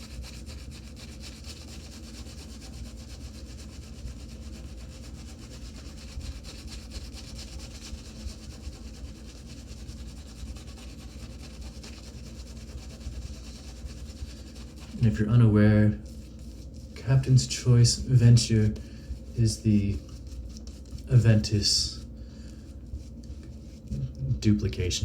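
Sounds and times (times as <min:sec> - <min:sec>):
shaving brush scrubbing soap: 0:00.0 - 0:24.0.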